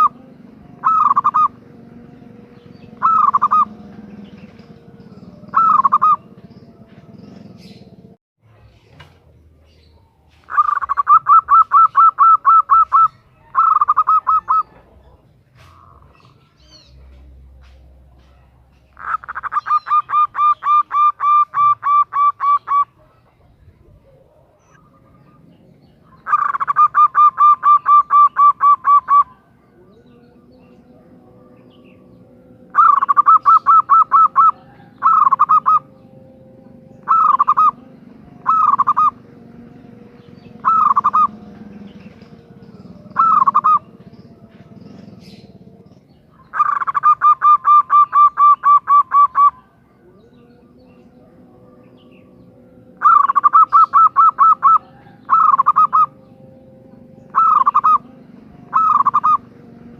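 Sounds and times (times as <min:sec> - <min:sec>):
dove cooing: 0:00.0 - 0:08.2, 0:09.8 - 0:59.9.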